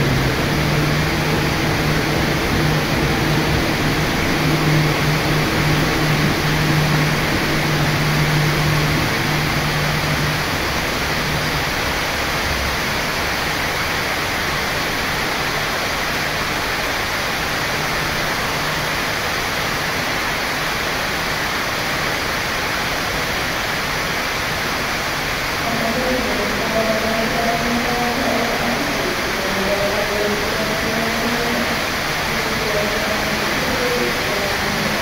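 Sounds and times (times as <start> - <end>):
electric train humming: 0.0 - 35.0
heavy rain hissing: 0.0 - 35.0.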